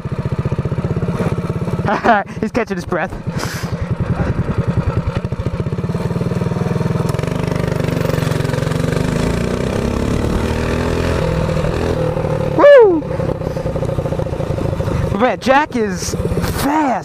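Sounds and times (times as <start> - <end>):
small gas engine revving: 0.0 - 17.0.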